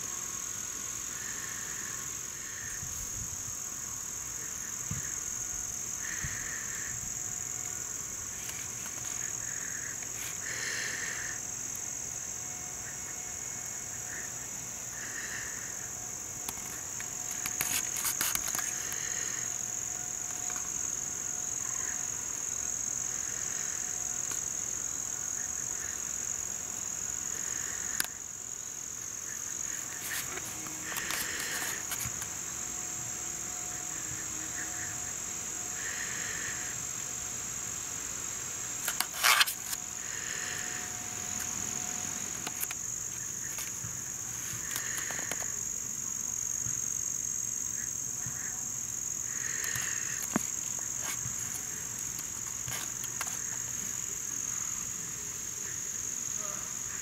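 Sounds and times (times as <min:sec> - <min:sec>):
insects trilling: 0:00.0 - 0:57.0
short insect calls: 0:00.0 - 0:57.0.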